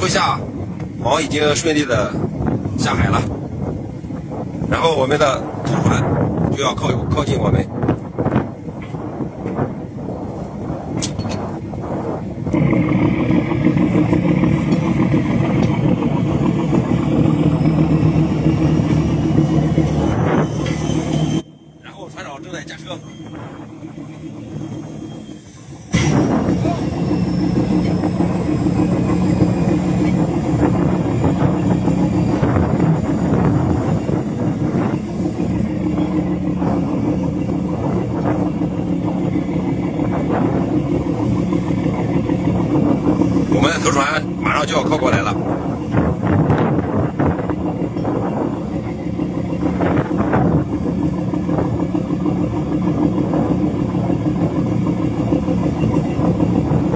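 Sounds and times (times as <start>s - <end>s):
boat diesel engine running: 0.0s - 56.9s.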